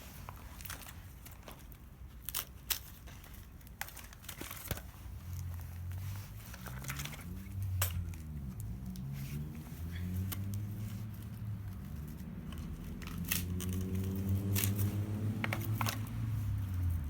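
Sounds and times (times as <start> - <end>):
wood crackling and snapping: 0.2 - 9.1, 10.2 - 17.0.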